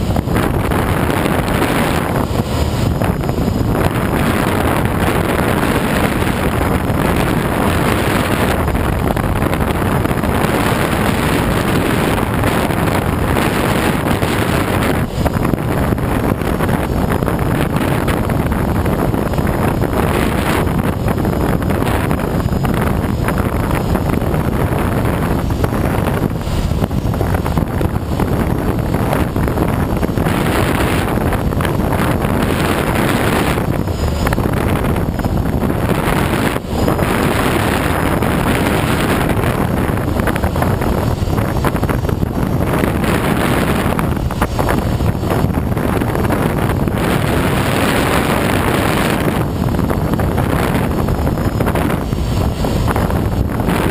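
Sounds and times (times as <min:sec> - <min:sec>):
airflow rushing around glider: 0:00.0 - 0:53.9
wind buffeting microphone: 0:00.0 - 0:53.9.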